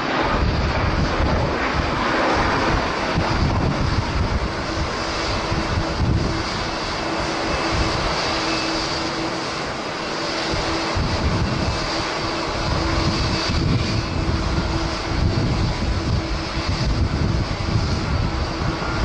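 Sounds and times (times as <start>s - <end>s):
jet engines roaring: 0.0s - 19.0s
wind buffeting microphone: 0.0s - 19.0s.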